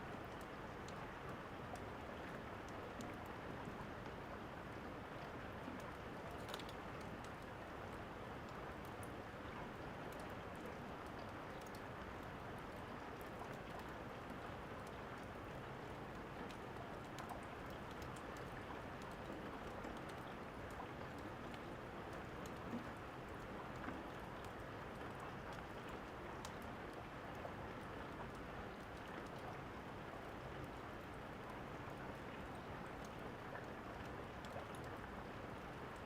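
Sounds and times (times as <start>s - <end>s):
steady rain: 0.0s - 36.0s.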